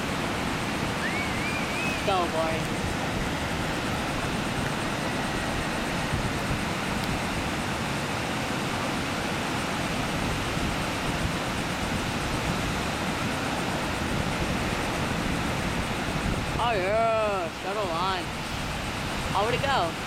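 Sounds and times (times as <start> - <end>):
ocean surf breaking: 0.0 - 20.0
wind noise: 0.0 - 20.0.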